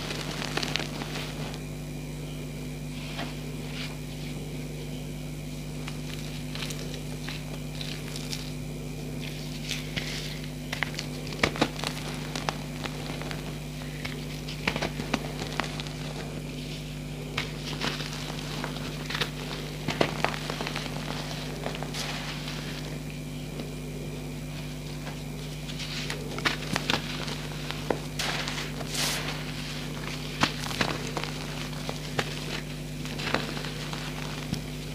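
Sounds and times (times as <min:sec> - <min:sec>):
low hum: 0:00.0 - 0:34.9
chalk crumbling in hands: 0:05.8 - 0:23.7, 0:24.5 - 0:34.9.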